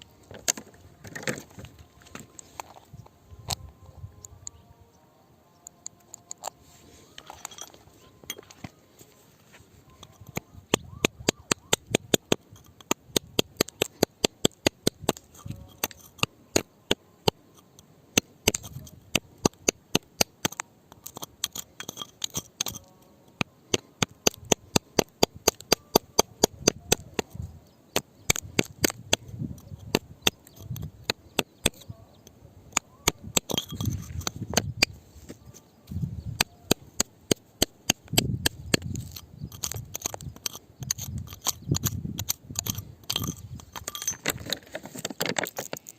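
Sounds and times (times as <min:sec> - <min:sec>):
tool clinking on rock: 0:05.9 - 0:08.8, 0:09.9 - 0:23.1, 0:23.7 - 0:27.4, 0:28.2 - 0:45.9.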